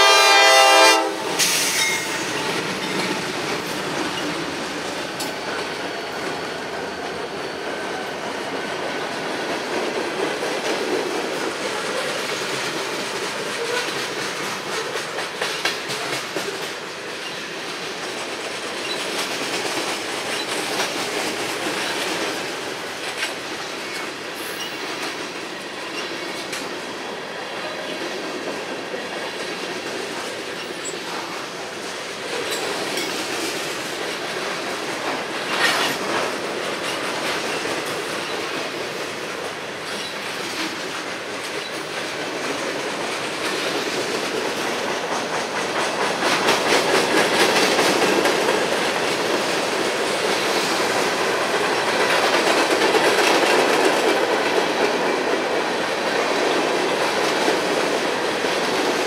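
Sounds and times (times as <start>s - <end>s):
steel wheels rumbling on rail: 0.0s - 59.0s
wheels clacking over rail joints: 0.0s - 59.0s.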